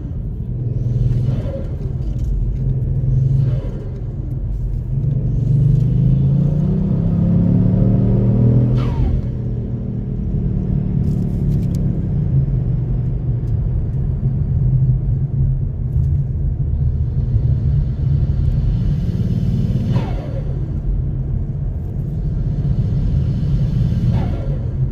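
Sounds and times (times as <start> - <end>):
car engine accelerating hard: 0.0 - 14.0, 16.0 - 24.9.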